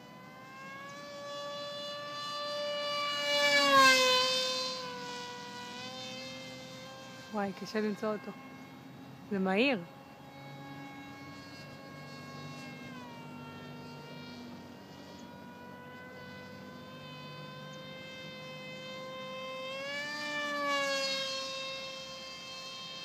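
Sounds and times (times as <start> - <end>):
model plane motor whining: 0.0 - 23.0.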